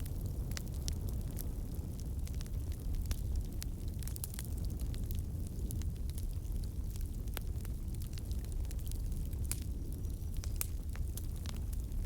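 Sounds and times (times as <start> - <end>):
campfire crackling and popping: 0.0 - 12.0
low fire rumble: 0.0 - 12.0.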